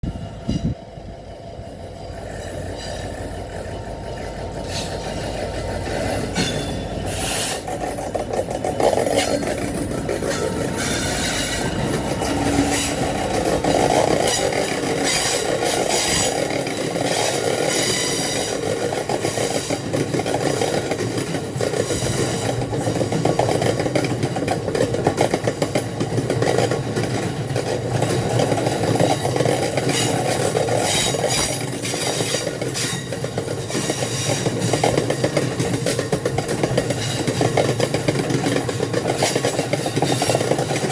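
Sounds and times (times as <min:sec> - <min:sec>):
diesel locomotive rumble: 0:00.0 - 0:40.9
train wheels clattering over rail joints: 0:01.6 - 0:40.9.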